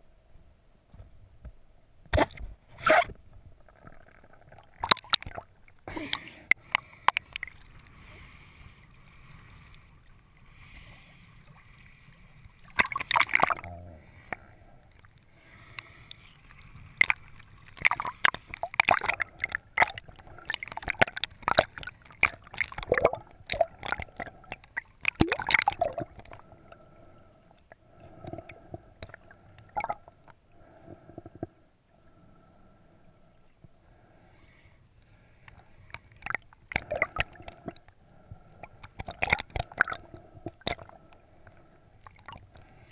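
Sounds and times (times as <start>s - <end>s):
faint steady hum: 0.0s - 42.9s
underwater bubbling: 2.2s - 42.9s.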